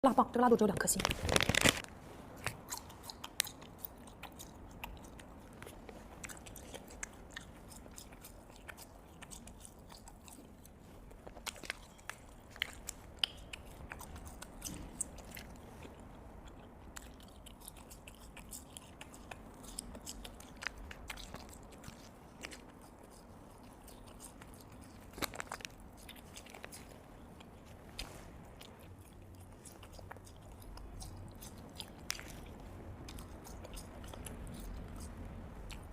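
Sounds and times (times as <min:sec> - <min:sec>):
person biting and chewing: 0:01.2 - 0:35.9.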